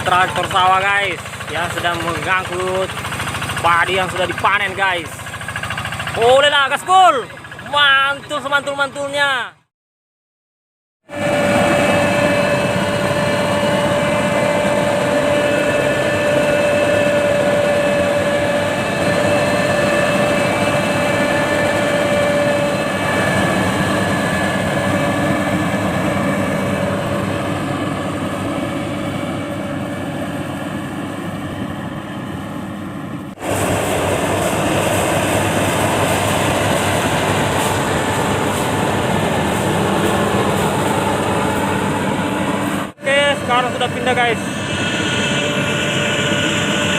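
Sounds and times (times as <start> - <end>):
tractor engine running hard: 0.0 - 9.3, 11.1 - 46.9
farm machine engine running: 0.0 - 9.4, 11.1 - 46.9
engine whine: 0.0 - 9.6, 11.1 - 46.9.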